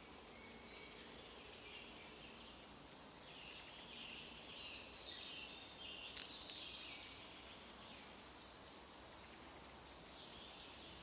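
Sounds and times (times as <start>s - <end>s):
faint outdoor background: 0.0s - 11.0s
songbirds twittering and chirping: 0.0s - 11.0s.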